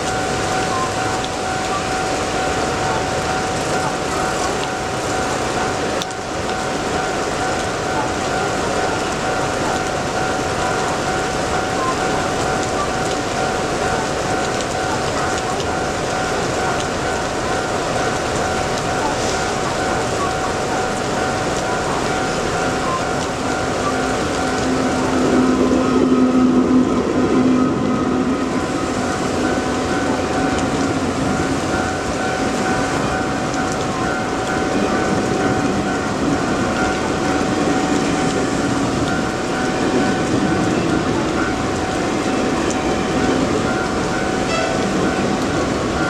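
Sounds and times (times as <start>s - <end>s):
crossing warning signal tone: 0.0s - 46.0s
heavy rain: 0.0s - 46.0s
low warning tone: 0.0s - 46.0s
train passing: 0.0s - 46.0s.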